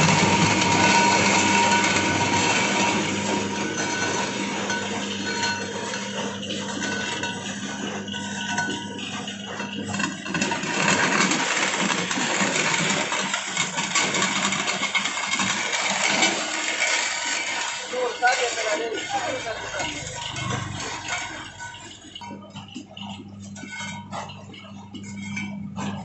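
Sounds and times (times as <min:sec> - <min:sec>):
clay crusher motor humming: 0:00.0 - 0:26.0.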